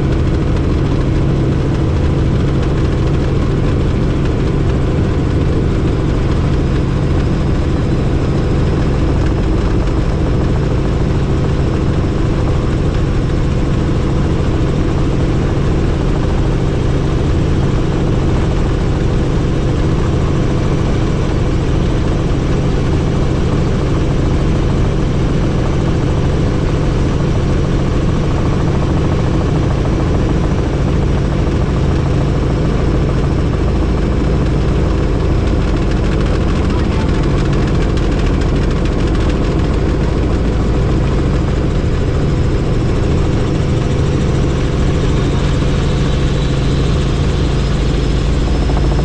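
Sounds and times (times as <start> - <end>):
helicopter rotor and engine drone: 0.0 - 49.0.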